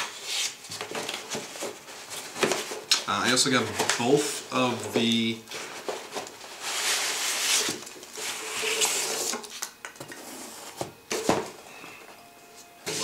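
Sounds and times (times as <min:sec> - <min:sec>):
cardboard scraping and rustling: 0:00.0 - 0:11.6.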